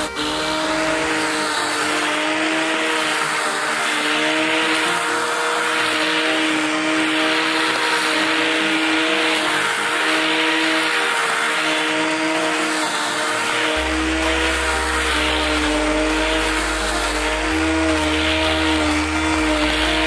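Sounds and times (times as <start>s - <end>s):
grinder motor whine: 0.0s - 20.0s.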